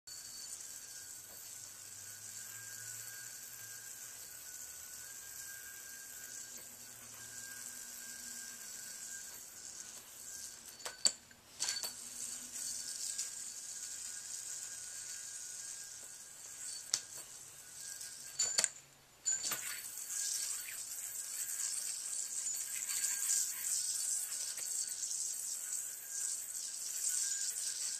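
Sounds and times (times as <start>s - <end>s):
yoyo spinning whir: 0.1s - 27.9s.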